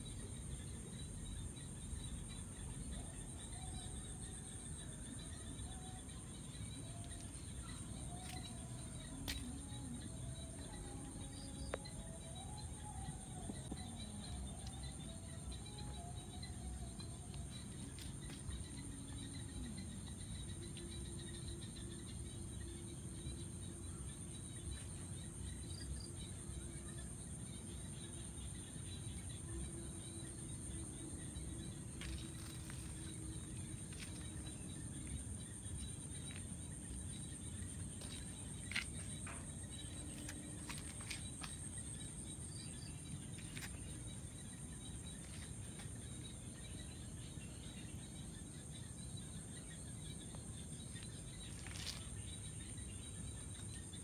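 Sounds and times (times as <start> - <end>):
insect chorus buzzing: 0.0 - 54.0.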